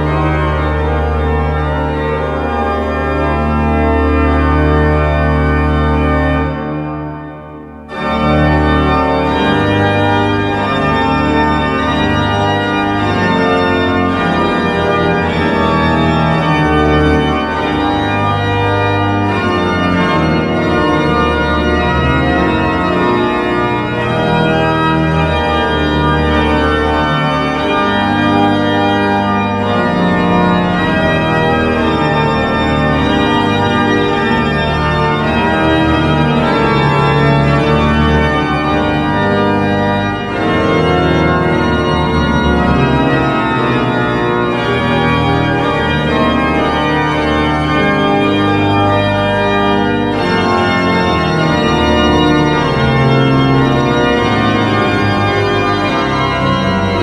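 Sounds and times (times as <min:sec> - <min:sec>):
low organ pedal bass notes: 0:00.0 - 0:57.0
pipe organ chords: 0:00.0 - 0:57.0.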